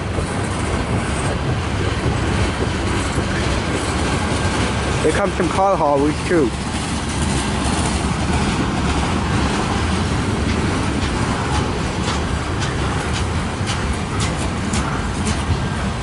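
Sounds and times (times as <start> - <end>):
freight train cars rolling: 0.0 - 16.0.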